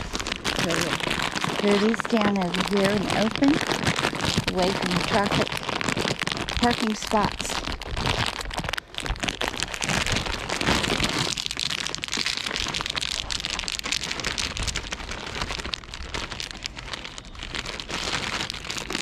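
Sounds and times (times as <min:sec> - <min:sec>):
plastic bag crackling: 0:00.0 - 0:19.0.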